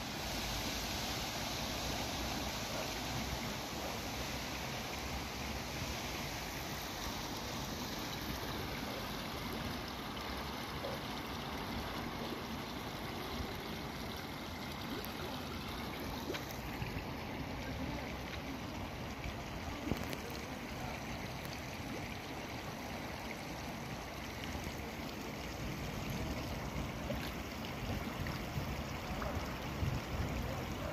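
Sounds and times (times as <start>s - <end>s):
water rushing and gurgling: 0.0s - 30.9s.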